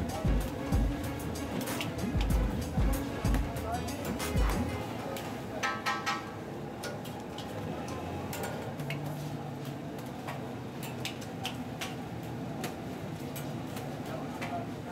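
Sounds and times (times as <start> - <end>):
steady background noise: 0.0 - 14.9.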